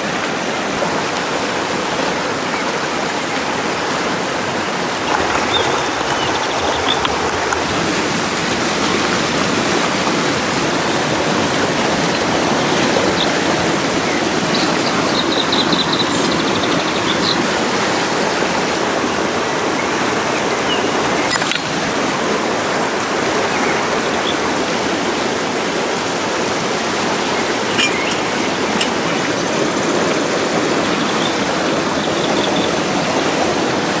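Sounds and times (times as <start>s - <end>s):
stream flowing: 0.0s - 34.0s.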